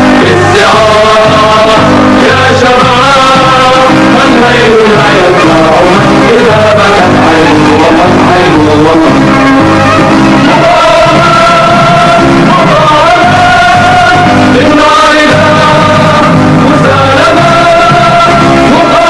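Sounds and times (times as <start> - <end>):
instrumental accompaniment: 0.0 - 19.0
person singing long notes: 0.0 - 19.0.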